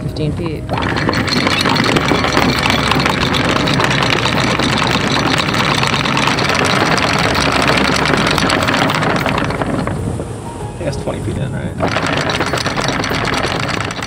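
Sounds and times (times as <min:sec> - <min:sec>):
anchor chain rattling: 0:00.0 - 0:10.4, 0:11.8 - 0:14.0
boat engine running: 0:00.0 - 0:14.0.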